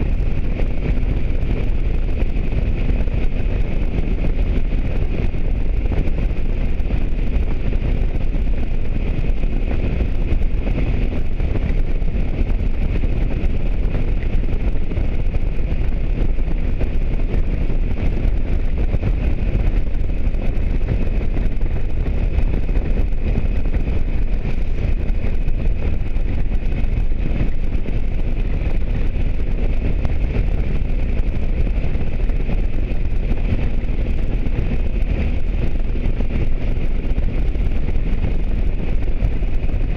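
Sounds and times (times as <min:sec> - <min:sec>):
motorcycle engine: 0:00.0 - 0:39.9
road noise: 0:00.0 - 0:39.9
wind rumble on microphone: 0:00.0 - 0:39.9.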